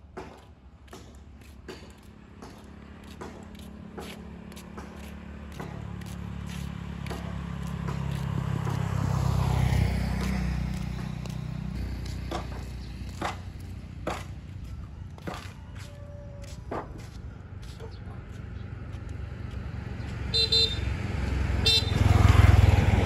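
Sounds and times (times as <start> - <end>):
footsteps on pavement: 0.1 - 21.5
vehicle passing: 2.2 - 15.8, 16.4 - 23.0.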